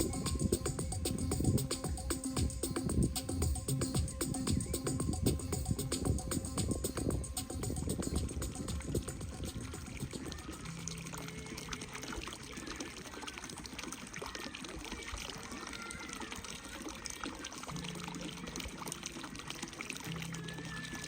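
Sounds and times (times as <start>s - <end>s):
trickling water: 0.0s - 21.0s.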